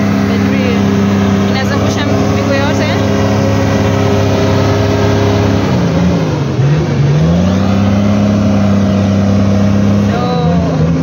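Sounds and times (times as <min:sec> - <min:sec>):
engine revving hard: 0:00.0 - 0:11.0.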